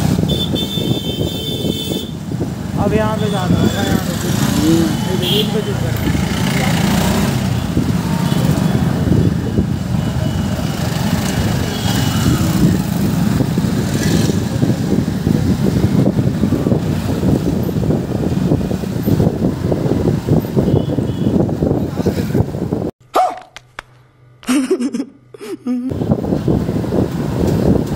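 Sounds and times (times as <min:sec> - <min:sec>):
street traffic: 0:00.0 - 0:27.9.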